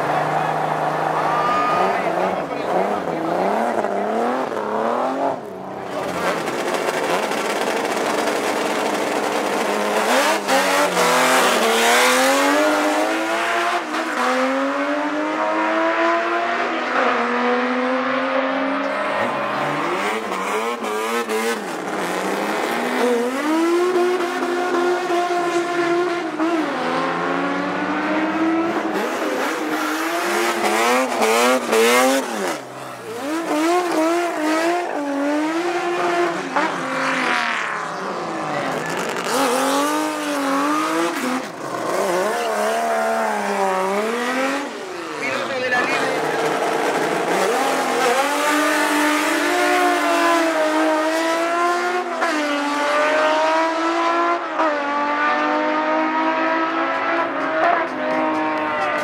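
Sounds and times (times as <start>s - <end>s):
drag car engines at full throttle: 0.0s - 59.0s.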